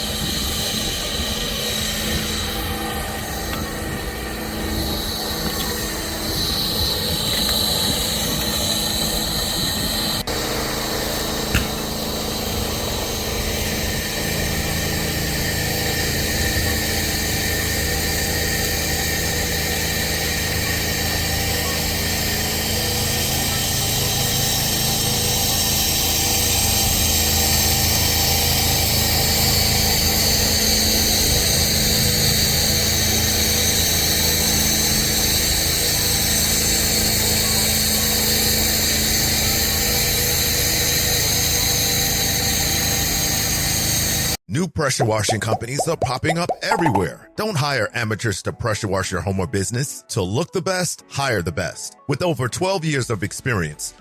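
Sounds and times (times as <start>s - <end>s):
small engine running: 0.0s - 44.4s.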